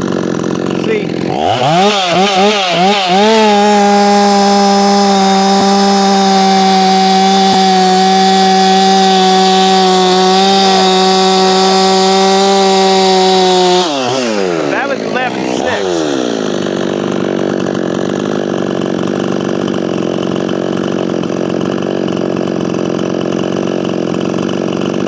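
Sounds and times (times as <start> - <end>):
chainsaw revving: 0.0 - 25.0.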